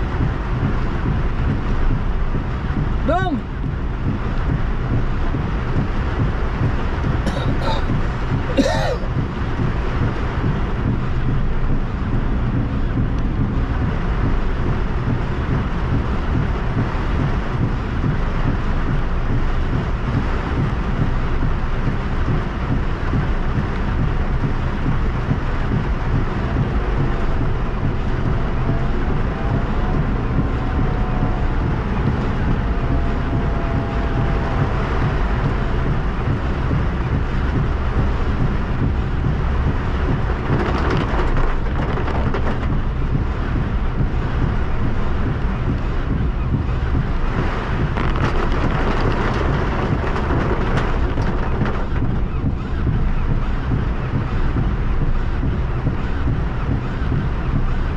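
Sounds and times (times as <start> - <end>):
car rumble and wind: 0.0 - 57.9
heavy rain on car roof: 0.0 - 57.9.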